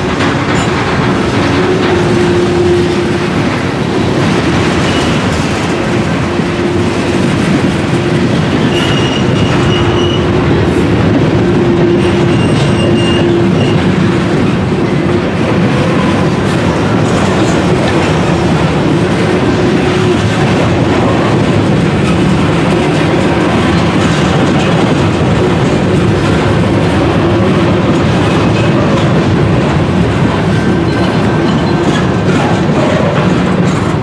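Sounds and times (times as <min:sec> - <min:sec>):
steel wheels rumbling on rails: 0:00.0 - 0:34.0.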